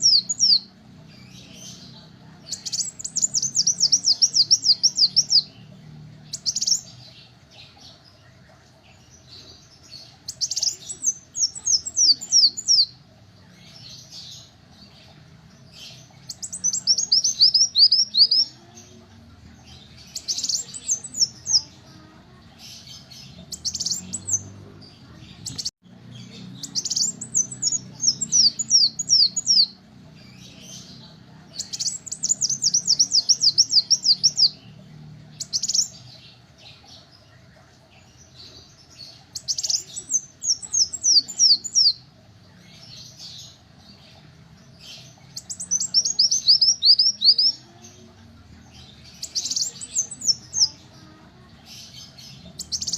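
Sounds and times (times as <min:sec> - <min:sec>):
sunbird chirping: 0:00.0 - 0:52.9.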